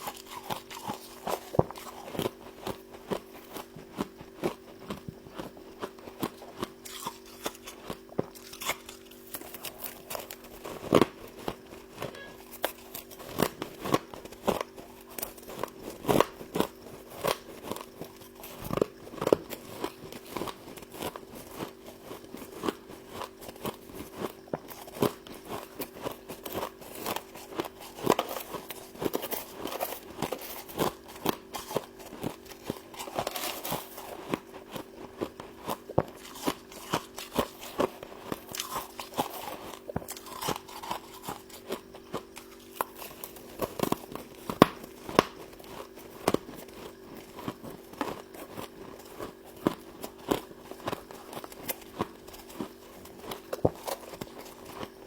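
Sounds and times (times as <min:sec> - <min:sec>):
frost crunching in chewing: 0:00.0 - 0:55.0
steady hum: 0:00.0 - 0:55.0.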